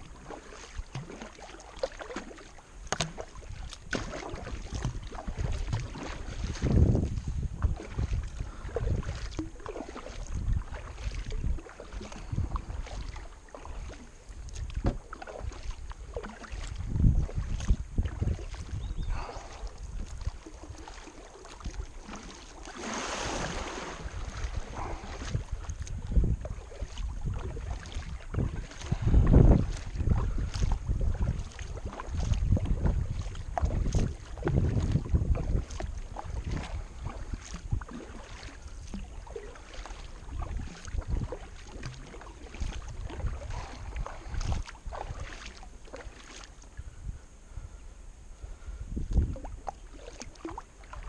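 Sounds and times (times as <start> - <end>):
paddle splashing in water: 0.0 - 47.7, 48.4 - 51.0
wind buffeting microphone: 3.3 - 21.0, 21.6 - 39.4, 40.1 - 46.0, 46.7 - 50.6.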